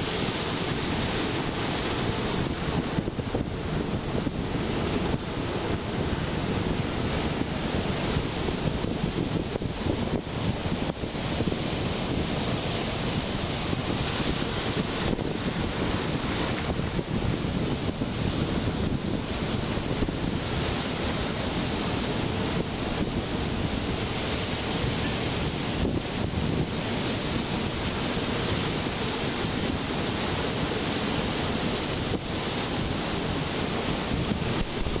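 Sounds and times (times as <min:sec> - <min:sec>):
surf breaking over rocks: 0:00.0 - 0:35.0
wind buffeting microphone: 0:00.0 - 0:35.0.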